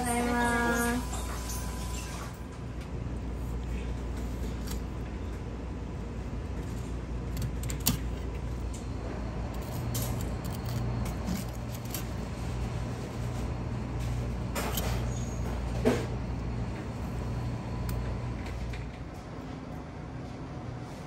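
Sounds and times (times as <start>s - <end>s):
low hum of kitchen machinery: 0.0s - 21.0s.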